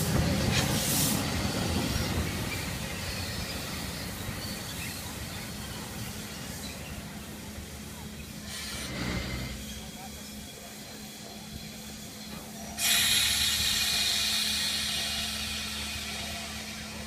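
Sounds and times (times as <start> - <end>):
loud hiss of steam: 0.0 - 17.0
steam locomotive moving slowly: 0.0 - 17.0.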